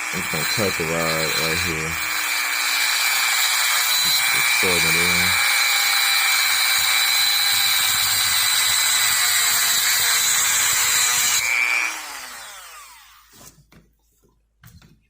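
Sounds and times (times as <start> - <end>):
rotary tool high whine: 0.0 - 13.4.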